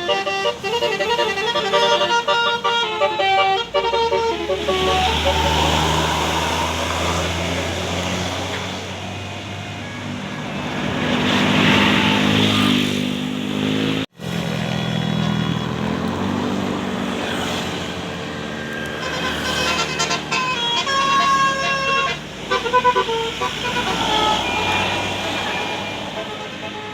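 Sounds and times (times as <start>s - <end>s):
vehicle engines passing: 0.0s - 26.9s.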